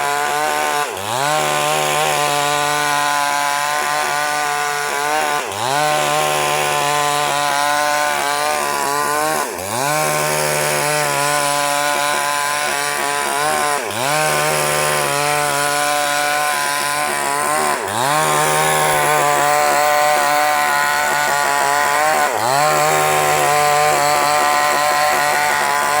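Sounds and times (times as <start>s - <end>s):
chainsaw cutting log: 0.0s - 26.0s.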